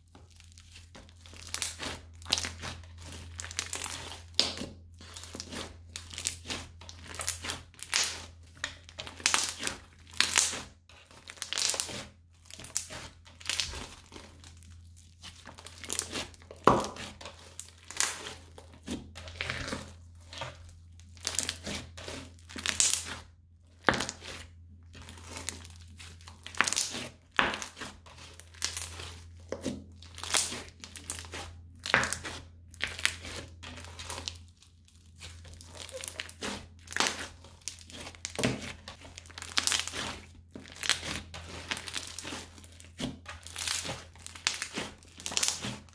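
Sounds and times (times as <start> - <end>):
crunchy slime crackling: 0.0 - 45.9.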